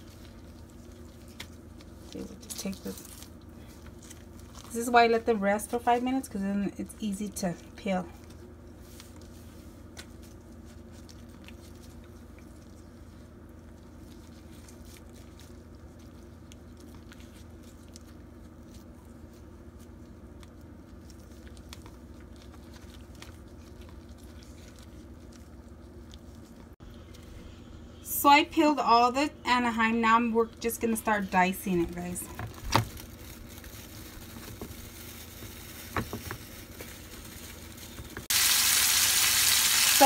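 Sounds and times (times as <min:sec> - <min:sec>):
steady low hum: 0:00.0 - 0:38.3.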